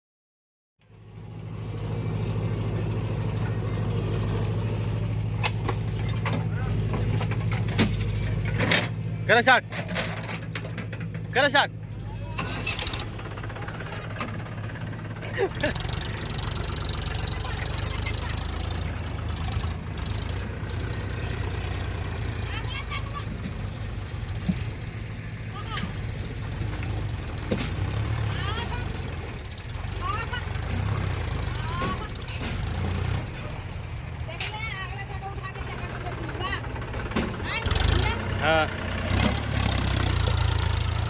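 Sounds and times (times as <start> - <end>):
diesel engine idling: 0.8 - 41.0.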